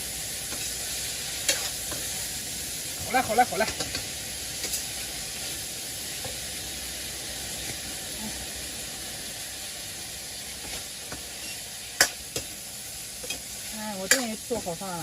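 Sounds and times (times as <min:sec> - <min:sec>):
stir-fry sizzling in a pan: 0:00.0 - 0:15.0.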